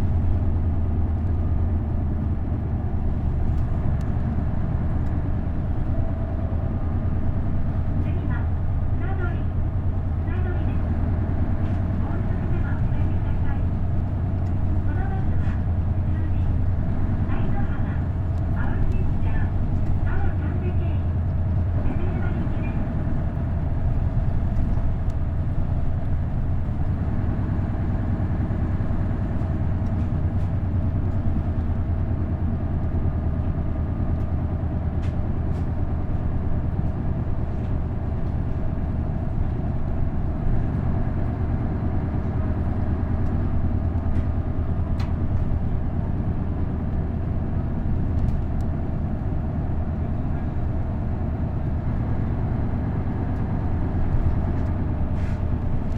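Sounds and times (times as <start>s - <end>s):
bus engine drone: 0.0s - 55.9s
road noise: 0.0s - 55.9s.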